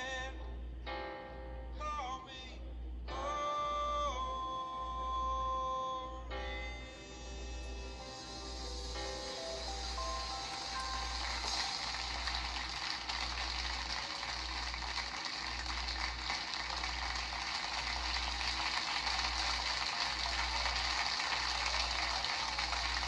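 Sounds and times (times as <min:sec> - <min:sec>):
steady static hiss: 0:00.0 - 0:23.0.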